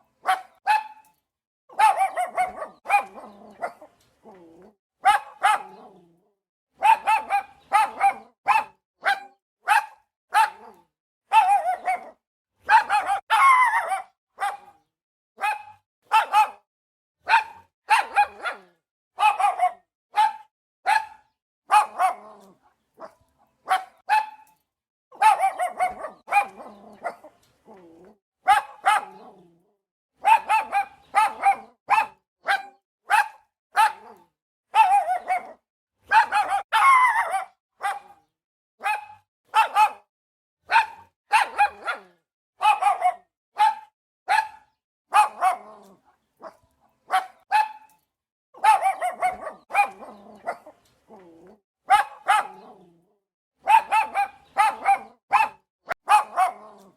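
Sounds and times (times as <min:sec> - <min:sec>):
dog barking: 0:00.2 - 0:01.1, 0:01.7 - 0:04.4, 0:05.0 - 0:06.1, 0:06.8 - 0:29.6, 0:30.2 - 0:48.0, 0:48.6 - 0:53.0, 0:53.6 - 0:56.9.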